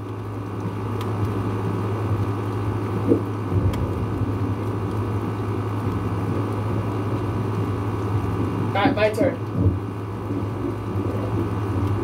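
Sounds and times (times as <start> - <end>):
heavy rain pouring: 0.0 - 12.0
steady low hum: 0.0 - 12.0.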